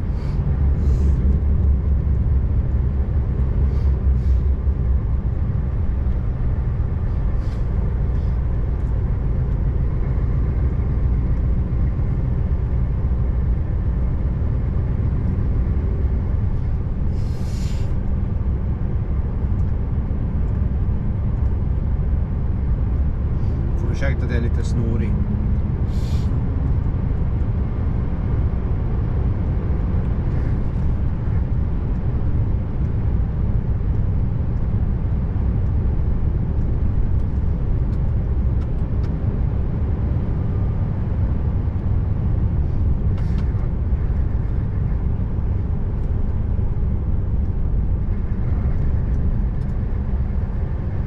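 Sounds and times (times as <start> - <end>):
truck engine and road drone: 0.0 - 51.0.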